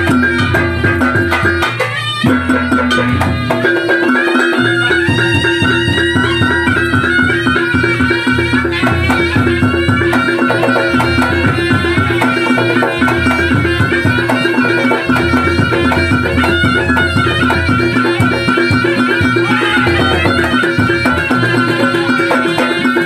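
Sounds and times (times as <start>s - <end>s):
hand drums beating: 0.0s - 23.0s
reedy wind instrument melody: 0.0s - 23.0s.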